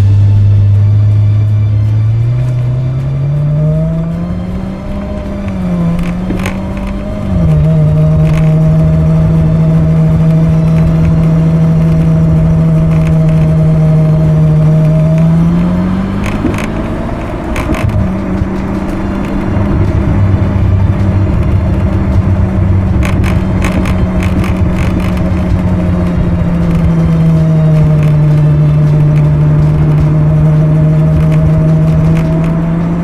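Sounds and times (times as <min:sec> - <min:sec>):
car engine exhaust drone: 0:00.0 - 0:33.0.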